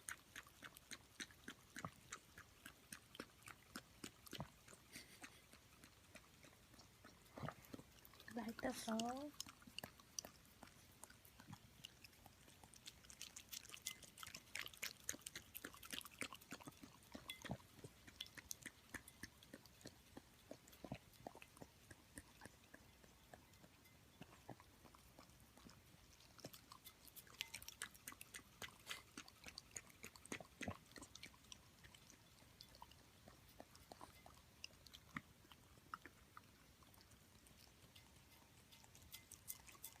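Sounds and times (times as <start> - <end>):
dog chewing: 0.0 - 40.0.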